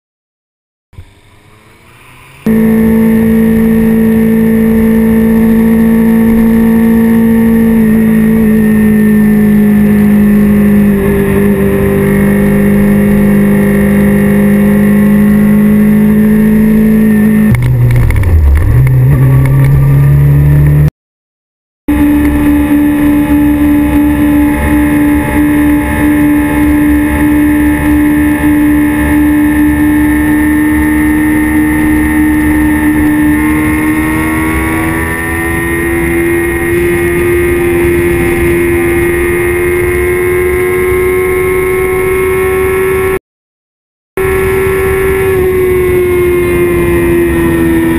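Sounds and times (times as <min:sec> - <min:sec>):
motorcycle engine revving high: 0:01.0 - 0:20.9, 0:21.9 - 0:43.2, 0:44.2 - 0:47.9.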